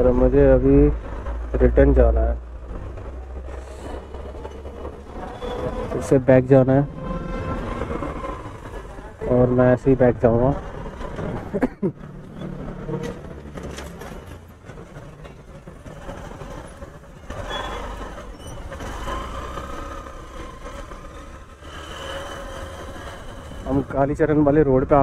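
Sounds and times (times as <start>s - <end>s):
traffic passing close by: 0.0s - 25.0s
tyre and road noise: 0.0s - 25.0s.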